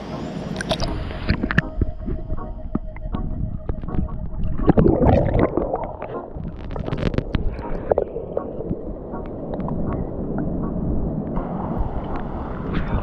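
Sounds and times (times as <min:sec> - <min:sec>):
water sloshing and gurgling: 0:00.4 - 0:13.0.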